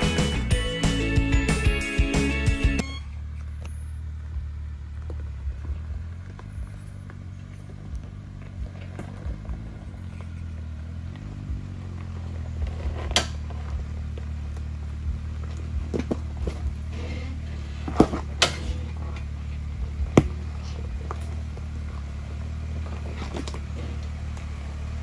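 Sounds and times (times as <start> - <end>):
vehicle engine running low: 0.0 - 25.0.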